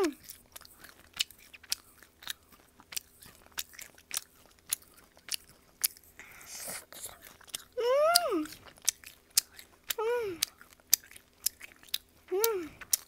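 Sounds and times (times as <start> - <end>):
chewing with wet mouth clicks: 0.0 - 13.0.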